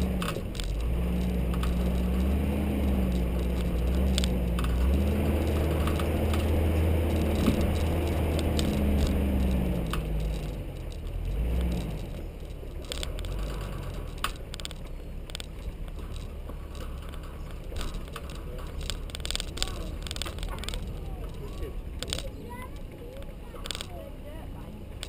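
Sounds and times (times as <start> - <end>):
clicks and rattles: 0.0 - 24.1
car engine running: 0.0 - 25.0
tyre noise on dirt track: 0.0 - 25.0.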